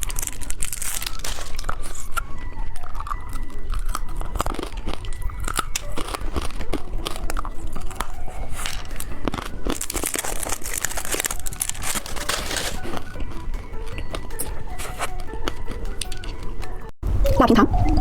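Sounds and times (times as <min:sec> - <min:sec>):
plastic wrapper crinkling and tearing: 0:00.0 - 0:16.4.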